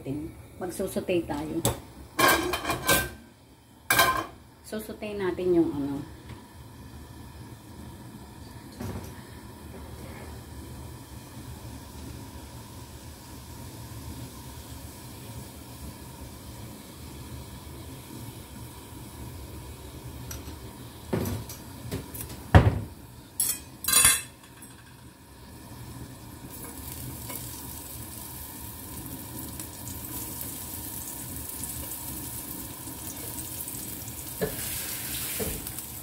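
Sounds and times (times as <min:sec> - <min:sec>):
garlic sizzling in hot oil: 0:03.8 - 0:36.0.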